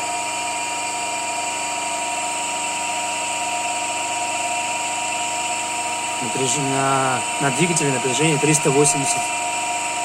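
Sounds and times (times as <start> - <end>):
electric motor hum and whine: 0.0 - 10.0.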